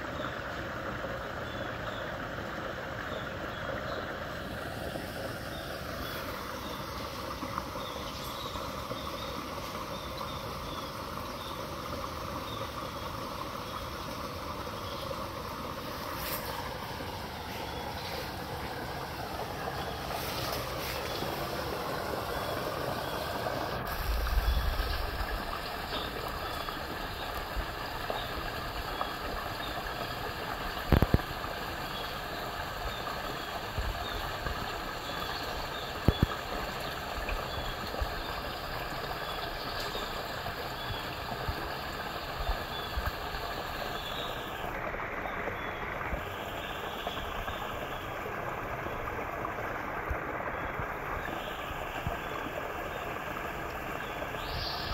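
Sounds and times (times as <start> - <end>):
water pouring from pipe: 5.9 - 54.9.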